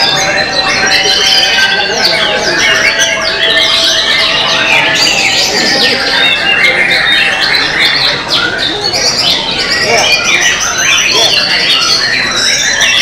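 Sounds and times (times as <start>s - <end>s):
bird singing whistled phrases: 0.0s - 13.0s.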